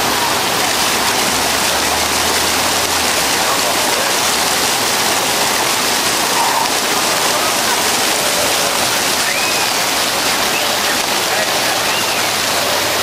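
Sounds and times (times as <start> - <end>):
spray fountains splashing on pool: 0.0 - 13.0.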